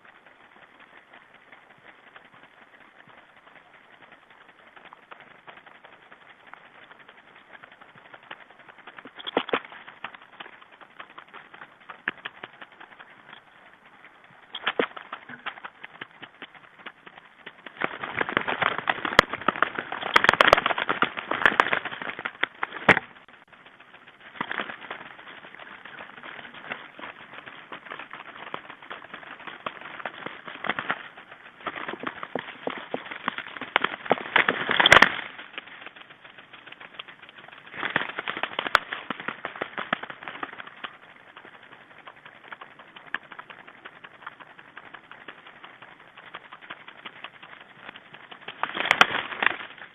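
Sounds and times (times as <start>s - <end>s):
birds pecking at seed: 0.0s - 49.9s.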